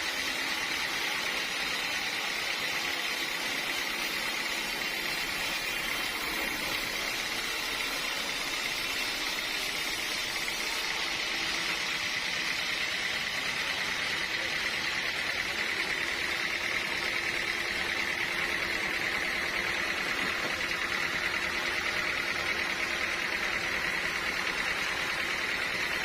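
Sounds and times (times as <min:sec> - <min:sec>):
sawmill machinery running: 0:00.0 - 0:26.0.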